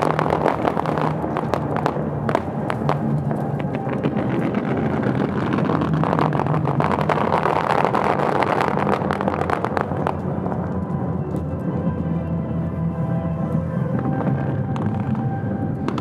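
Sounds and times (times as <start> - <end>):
fireworks crackling and popping: 0.0 - 12.2, 13.5 - 16.0.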